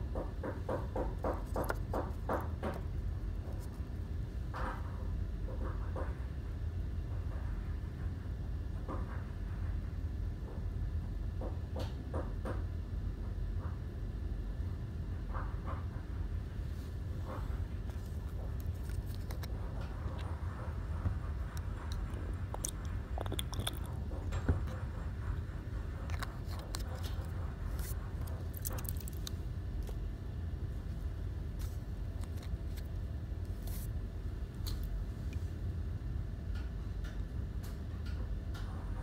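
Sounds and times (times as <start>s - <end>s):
low room hum: 0.0s - 39.0s.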